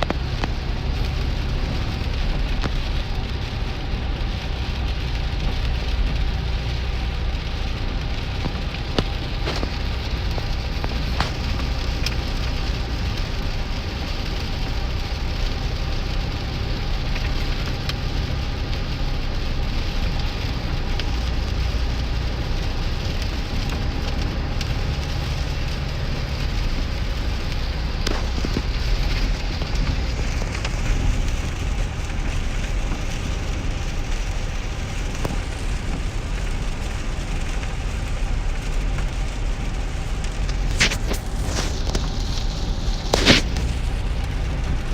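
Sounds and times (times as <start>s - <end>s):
engine and tyres on wet road: 0.0s - 44.9s
rain on vehicle roof: 0.0s - 44.9s.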